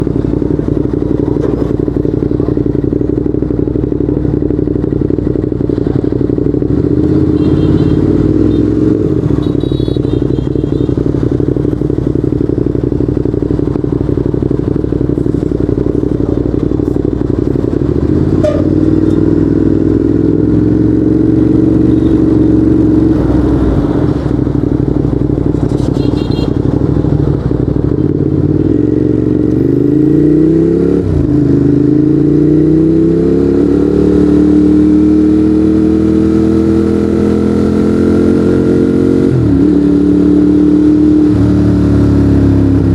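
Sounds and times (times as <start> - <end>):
motorcycle engine while riding: 0.0 - 42.9.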